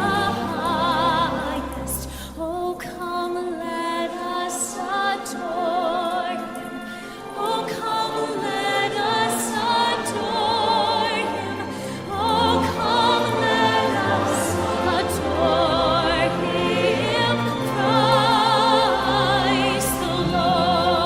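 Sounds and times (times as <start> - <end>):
choir and operatic voices singing: 0.0 - 21.0
orchestral accompaniment: 0.0 - 21.0.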